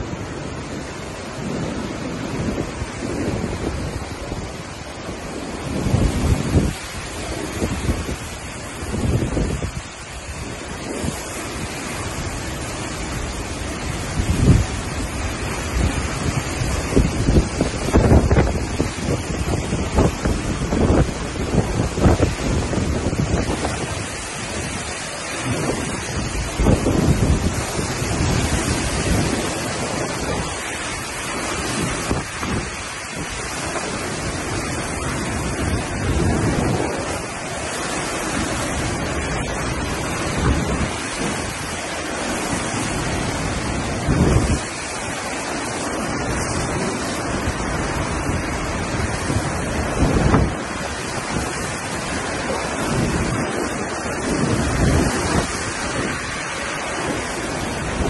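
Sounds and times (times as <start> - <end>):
gusts buffeting microphone: 0.0 - 58.0
strong wind blowing: 0.0 - 58.0.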